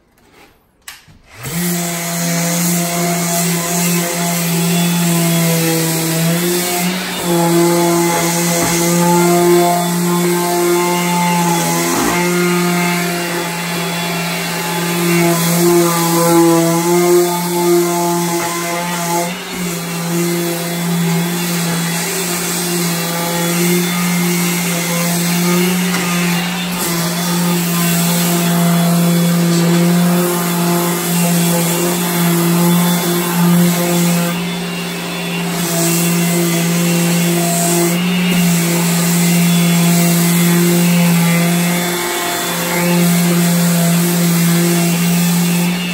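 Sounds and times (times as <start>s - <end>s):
orbital sander humming: 1.4s - 45.9s.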